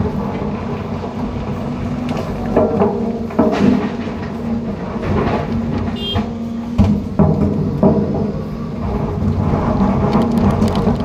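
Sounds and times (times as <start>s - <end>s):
excavator engine and hydraulics: 0.0s - 11.0s
rocks clattering into truck bed: 0.0s - 11.0s.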